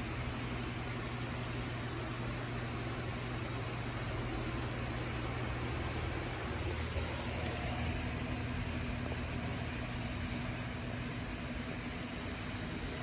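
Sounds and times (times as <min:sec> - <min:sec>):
low machine hum with hiss: 0:00.0 - 0:13.0.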